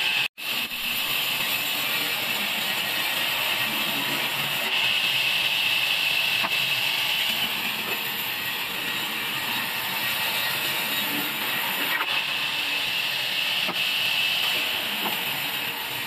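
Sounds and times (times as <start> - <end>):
circular saw whining: 0.0 - 16.0.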